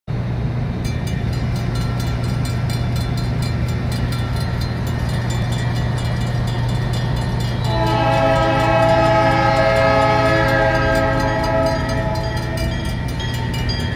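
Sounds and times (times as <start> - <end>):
electronic crossing bell dinging: 0.8 - 13.9.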